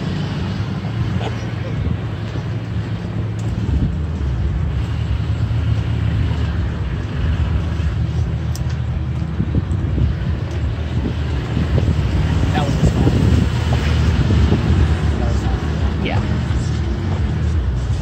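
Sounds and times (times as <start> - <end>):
pickup engine drone: 0.0 - 18.0
rough tyre noise on dirt: 0.0 - 18.0.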